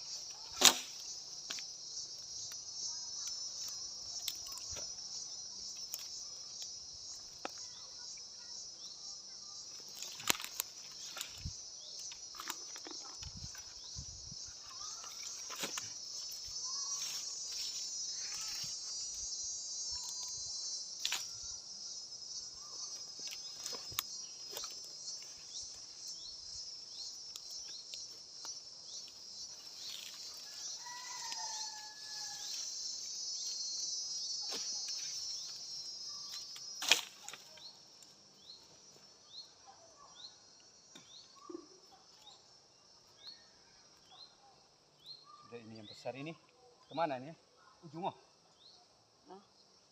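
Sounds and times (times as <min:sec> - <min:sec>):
insects buzzing: 0:00.0 - 0:49.9.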